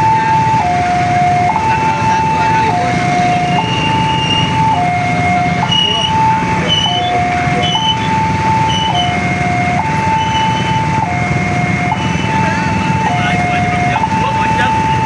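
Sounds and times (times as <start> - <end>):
low vehicle rumble: 0.0 - 15.0
two-tone crossing alarm: 0.0 - 15.0.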